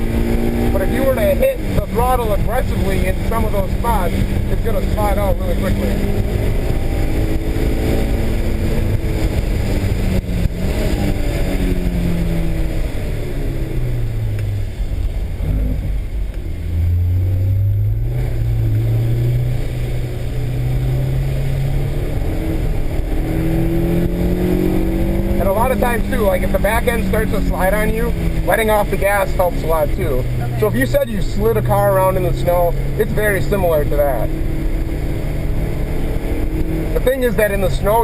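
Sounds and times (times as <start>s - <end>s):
car engine from inside cabin: 0.0s - 38.0s
road noise: 0.0s - 38.0s.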